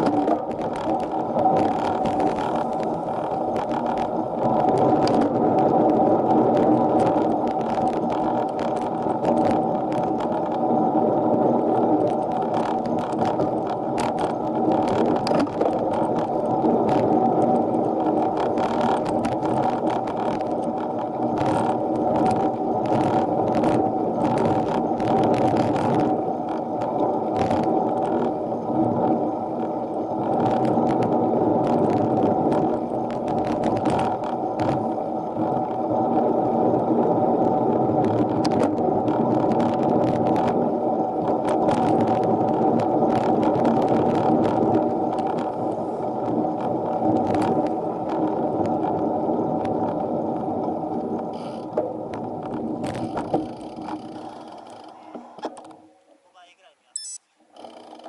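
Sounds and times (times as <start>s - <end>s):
bicycle rattles and clicks: 0.0s - 55.8s, 57.5s - 58.0s
bicycle drivetrain and tyres whirring: 0.0s - 56.1s, 57.1s - 58.0s.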